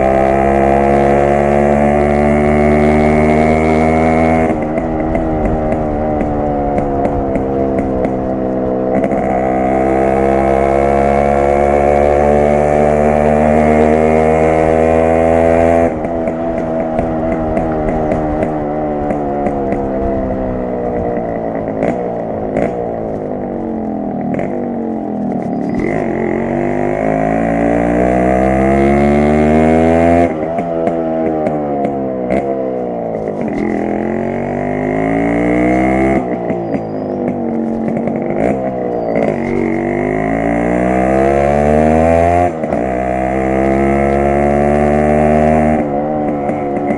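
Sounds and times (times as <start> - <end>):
two-stroke motorcycle engine: 0.0 - 46.9.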